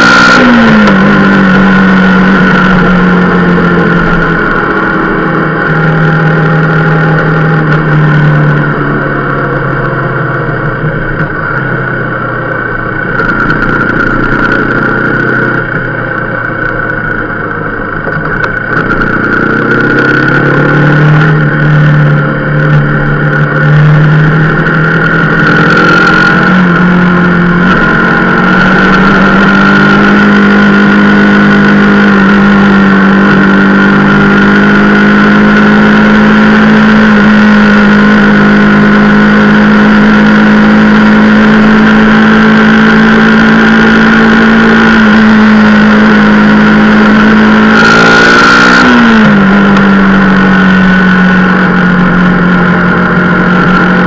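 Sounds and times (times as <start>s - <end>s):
motorcycle engine accelerating: 0.0s - 54.0s
steady high whine: 0.0s - 54.0s.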